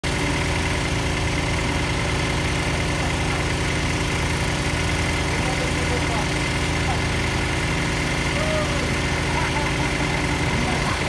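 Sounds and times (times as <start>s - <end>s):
drilling rig engine running: 0.0s - 11.0s.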